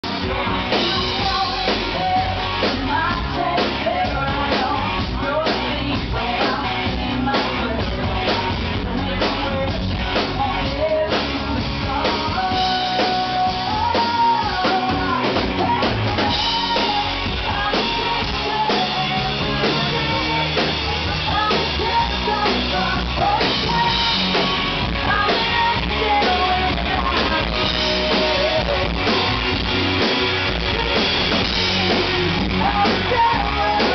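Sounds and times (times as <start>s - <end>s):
live band playing: 0.0s - 33.9s
woman singing lead: 0.0s - 33.9s.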